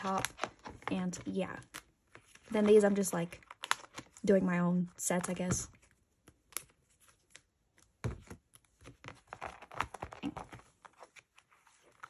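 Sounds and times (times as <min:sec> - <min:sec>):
plastic sleeves crinkling: 0:00.0 - 0:04.4, 0:05.0 - 0:12.0.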